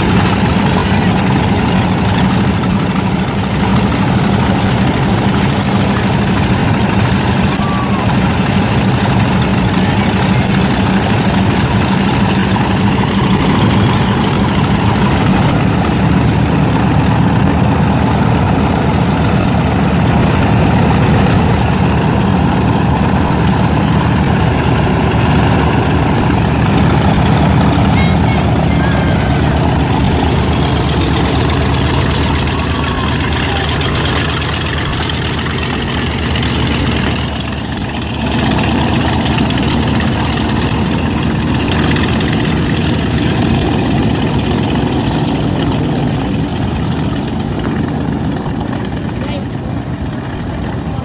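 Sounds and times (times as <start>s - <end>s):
aircraft piston engine throbbing: 0.0s - 51.0s.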